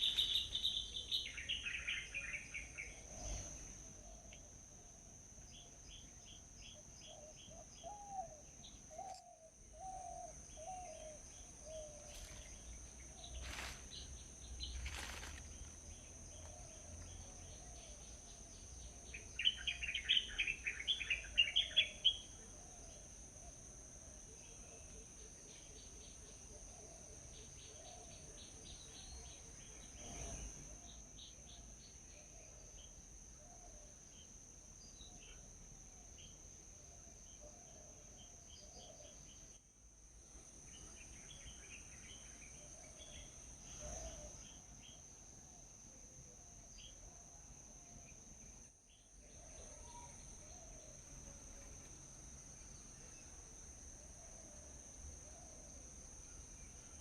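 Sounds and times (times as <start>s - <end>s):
faint scattered bird chirps: 0.0s - 23.6s, 24.4s - 39.7s, 40.6s - 45.7s, 46.6s - 57.0s
high insect drone: 0.0s - 57.0s.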